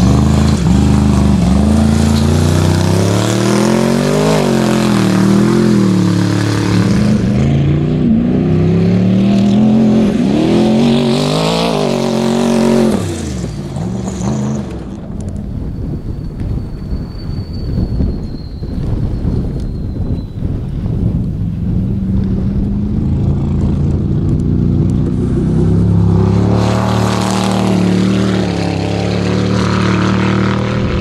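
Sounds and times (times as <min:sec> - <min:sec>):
truck engine revving: 0:00.0 - 0:15.4, 0:21.3 - 0:31.0.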